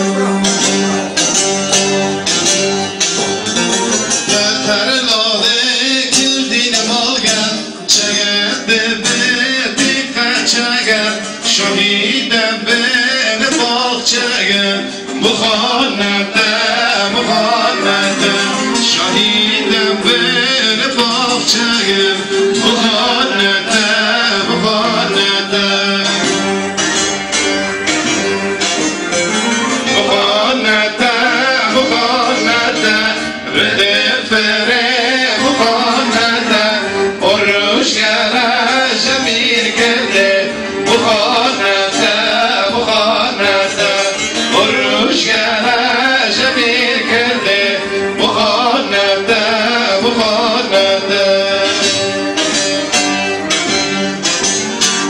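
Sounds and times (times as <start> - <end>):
man singing into microphone: 0.0 - 1.1, 4.1 - 26.7, 29.8 - 53.0
long-necked lute playing: 0.0 - 55.0.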